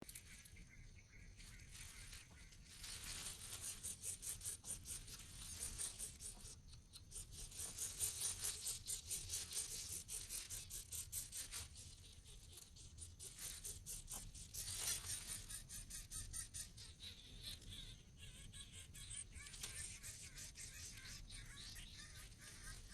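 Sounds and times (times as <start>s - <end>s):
nestling birds chirping: 0.0s - 22.9s.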